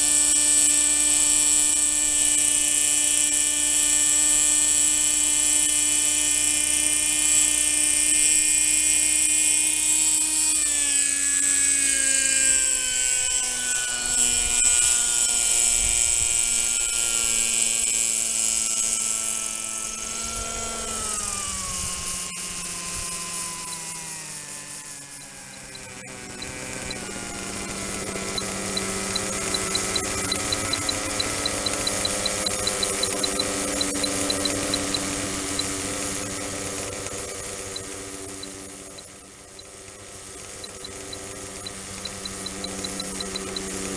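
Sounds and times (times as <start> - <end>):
model helicopter engine: 0.0 - 43.9.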